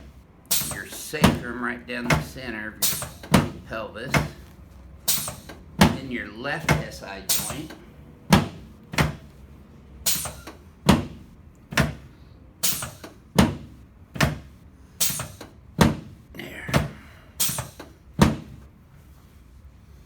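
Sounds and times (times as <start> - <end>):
adjusting table thudding: 0.0 - 9.4, 10.1 - 18.7.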